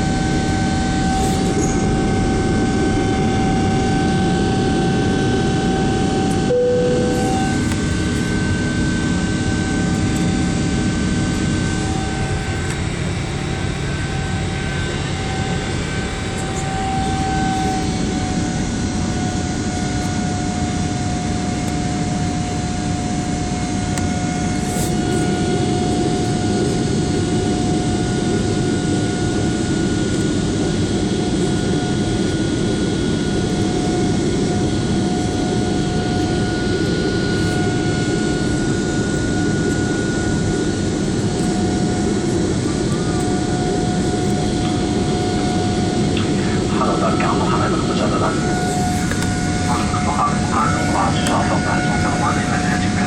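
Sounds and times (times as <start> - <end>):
jet engine roar in cabin: 0.0 - 53.0.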